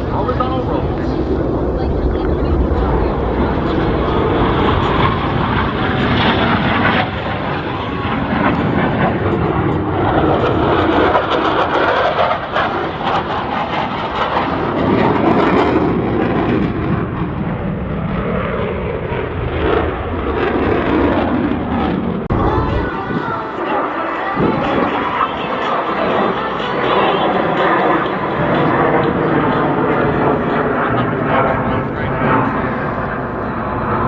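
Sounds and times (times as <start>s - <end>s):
fighter jet roar: 0.0s - 34.0s.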